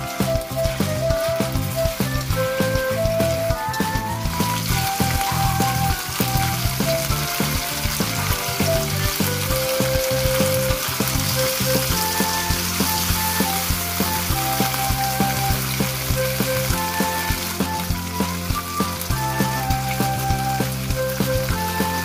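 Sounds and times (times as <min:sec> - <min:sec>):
shrimp sizzling in a wok: 0:00.0 - 0:22.0
soft background music: 0:00.0 - 0:22.0.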